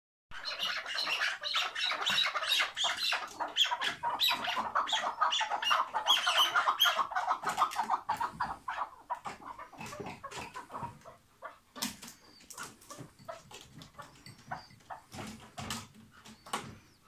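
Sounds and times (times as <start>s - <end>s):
partridges calling: 0.3s - 11.2s, 12.0s - 17.0s.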